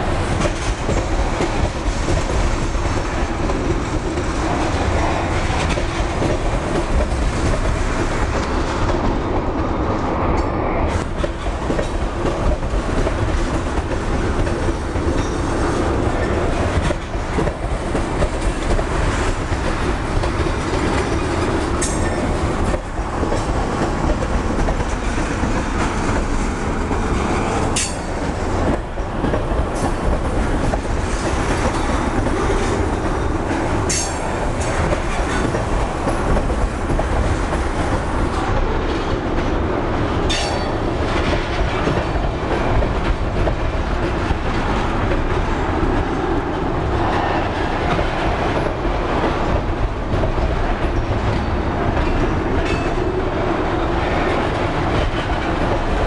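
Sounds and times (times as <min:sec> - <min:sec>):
train wheels rumbling on rails: 0:00.0 - 0:56.0
wheel clickety-clack over rail joints: 0:00.0 - 0:56.0.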